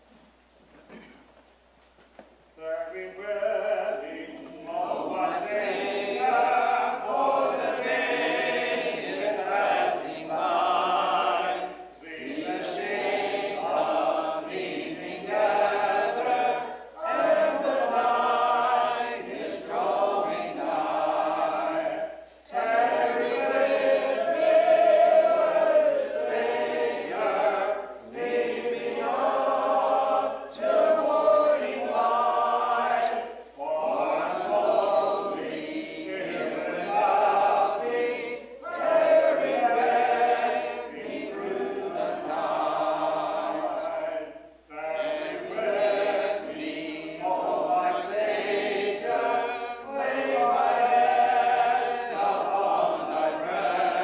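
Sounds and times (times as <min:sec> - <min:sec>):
congregation singing a hymn: 0:02.6 - 0:54.0.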